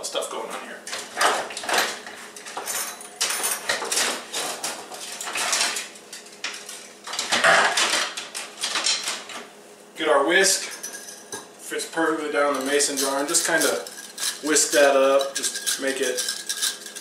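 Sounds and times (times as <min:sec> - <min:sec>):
kitchen utensils and dishes clattering: 0:00.9 - 0:09.4, 0:10.6 - 0:11.4, 0:12.4 - 0:17.0.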